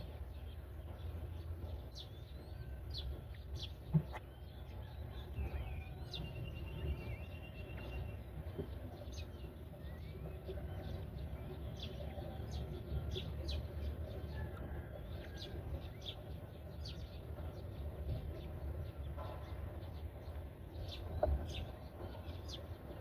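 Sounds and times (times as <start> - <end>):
birds chirping: 0.0 - 23.0
low background rumble: 0.0 - 23.0.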